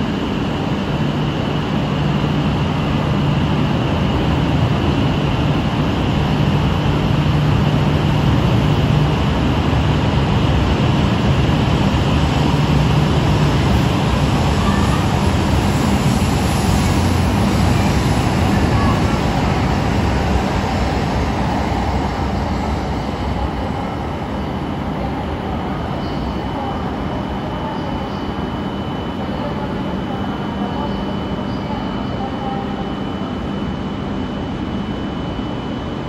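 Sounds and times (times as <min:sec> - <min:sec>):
low train hum: 0:00.0 - 0:36.0
train rolling past: 0:02.4 - 0:32.6.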